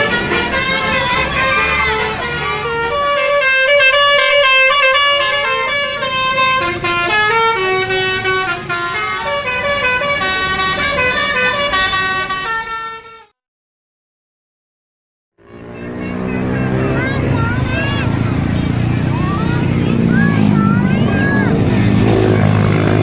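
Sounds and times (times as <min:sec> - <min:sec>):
multi-tone bus horn melody: 0:00.0 - 0:13.4, 0:15.4 - 0:23.0.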